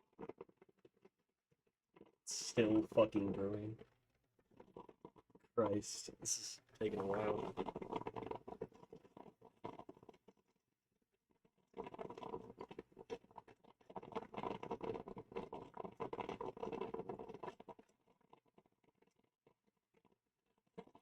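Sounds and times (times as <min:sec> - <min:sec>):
coffee maker gurgling: 0:00.0 - 0:01.2, 0:02.0 - 0:10.6, 0:11.2 - 0:21.0.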